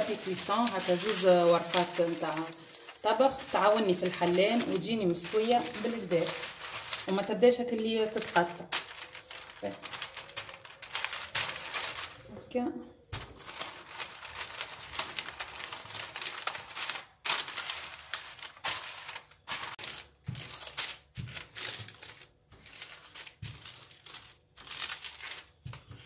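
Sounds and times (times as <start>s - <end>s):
baking paper crinkling: 0.0s - 26.0s.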